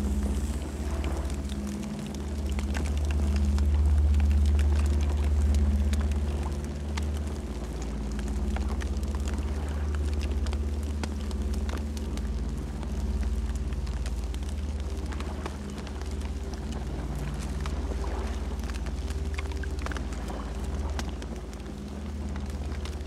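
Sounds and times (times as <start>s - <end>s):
campfire crackling and popping: 0.0s - 23.0s
campfire rumbling: 0.0s - 23.0s.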